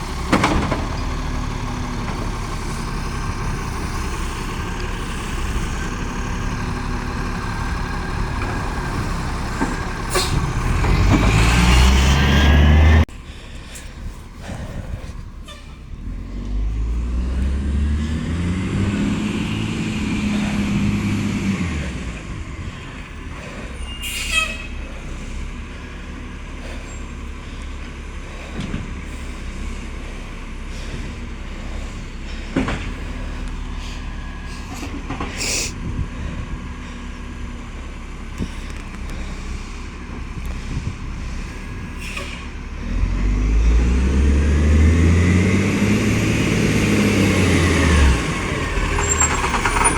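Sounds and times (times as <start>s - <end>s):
diesel truck engine revving: 0.0s - 49.9s.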